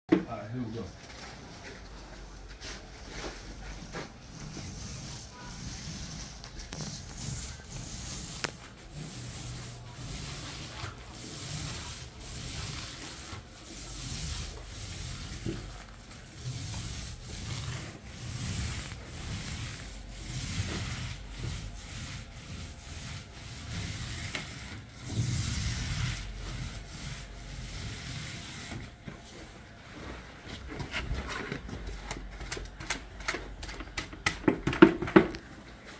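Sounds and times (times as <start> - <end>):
paint roller swishing: 0.8 - 32.7.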